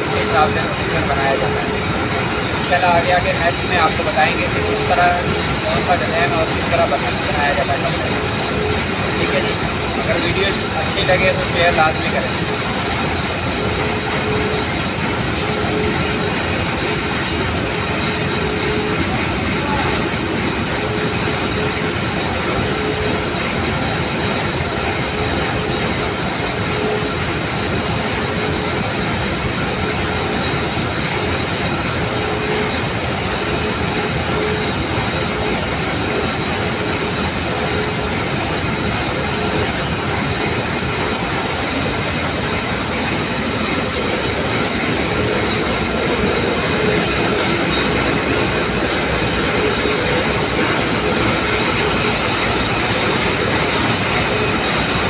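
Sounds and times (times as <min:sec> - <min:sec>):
constant tone: 0:00.0 - 0:55.0
knitting machines clattering: 0:00.0 - 0:55.0.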